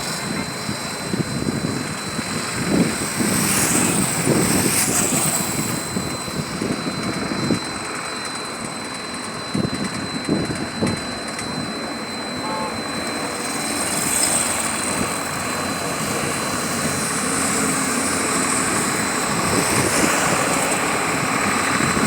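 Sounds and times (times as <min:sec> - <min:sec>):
airplane engines running: 0:00.0 - 0:22.0.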